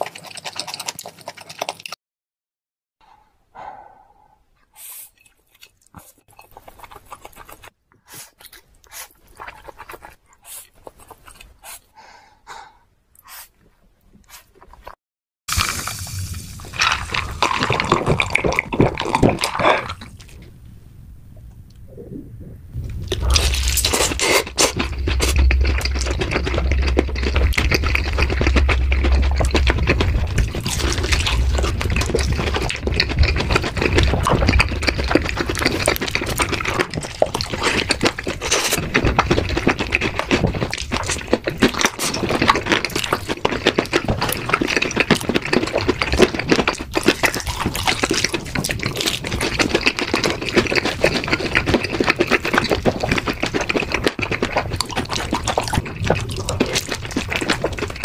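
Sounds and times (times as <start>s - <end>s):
people chewing crunchy chicken: 0.0s - 2.0s, 4.7s - 20.5s, 22.8s - 58.0s.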